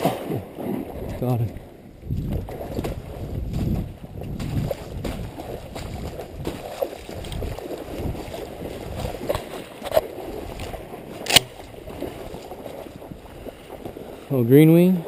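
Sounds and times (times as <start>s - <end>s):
sloshing through shallow water: 0.0s - 15.0s.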